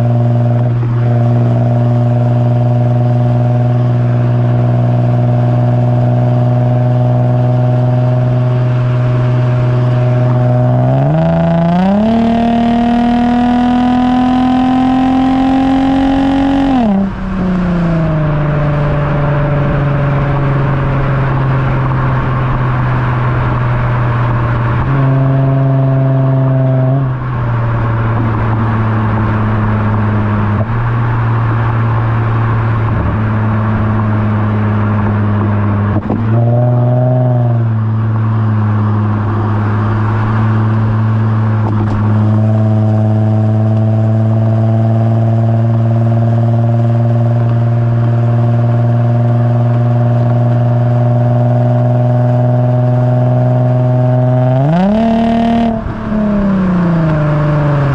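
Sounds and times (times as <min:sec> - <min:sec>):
car exhaust droning: 0:00.0 - 0:57.9.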